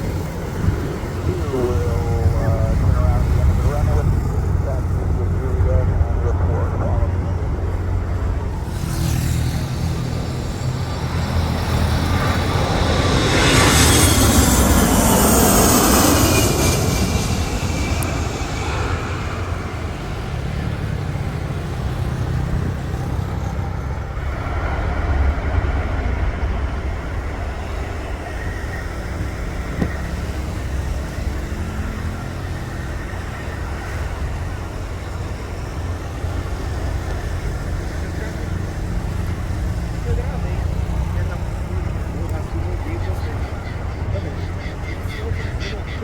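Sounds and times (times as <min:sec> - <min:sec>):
jet engines passing close: 0:00.0 - 0:46.0.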